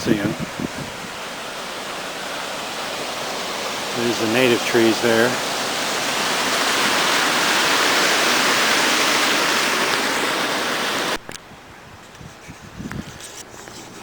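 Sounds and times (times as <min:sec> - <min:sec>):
water rushing over a dam: 0:00.0 - 0:11.2.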